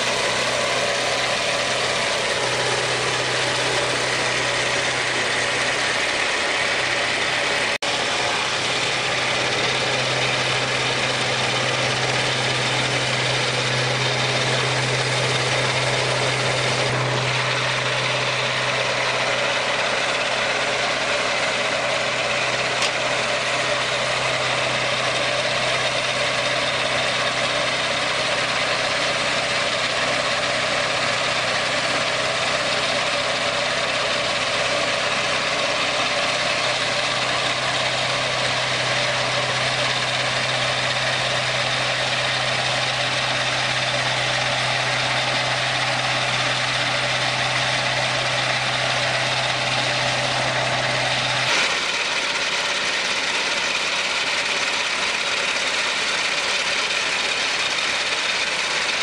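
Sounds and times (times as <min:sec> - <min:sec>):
sawmill engine droning: 0:00.0 - 0:59.0.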